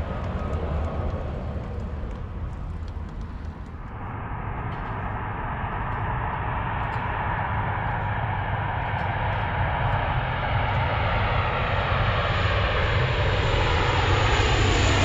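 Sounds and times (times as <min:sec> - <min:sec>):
low rumble: 0:00.0 - 0:12.9
aircraft engine noise: 0:00.0 - 0:15.0.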